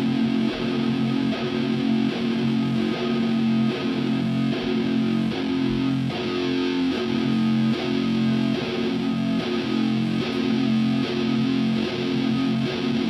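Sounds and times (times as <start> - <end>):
electric guitar sustained chords: 0.0 - 13.0.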